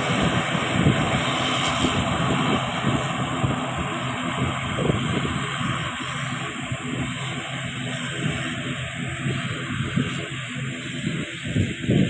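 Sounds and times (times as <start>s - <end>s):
turboprop engines running: 0.0s - 12.0s.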